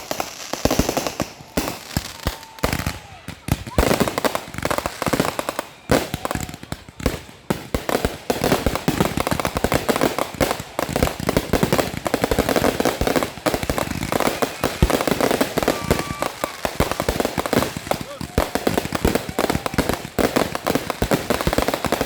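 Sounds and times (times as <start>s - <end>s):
fireworks banging and crackling: 0.0s - 22.0s.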